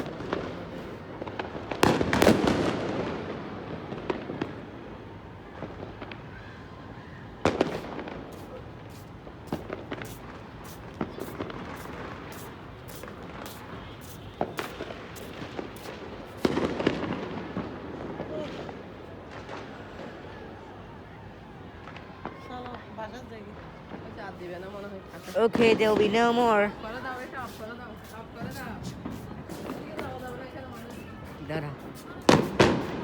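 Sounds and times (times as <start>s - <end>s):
fireworks bangs: 0.0s - 4.9s, 7.4s - 20.3s, 21.8s - 33.0s
fireworks crackles: 0.0s - 4.9s, 7.4s - 20.4s, 21.8s - 33.0s.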